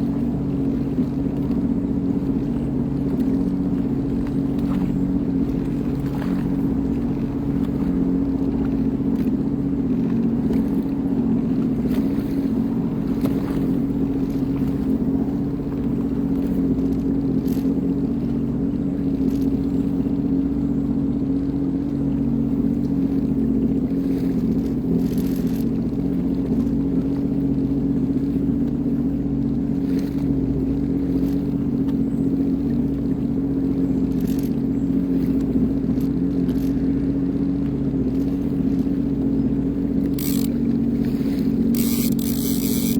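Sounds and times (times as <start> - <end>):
watercraft engine droning: 0.0 - 42.9.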